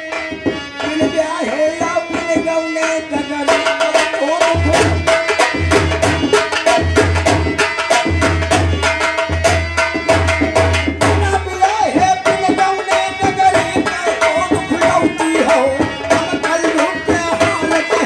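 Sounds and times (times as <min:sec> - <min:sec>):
fast hand-drum beats: 0:00.0 - 0:18.0
held melody line: 0:00.0 - 0:18.0.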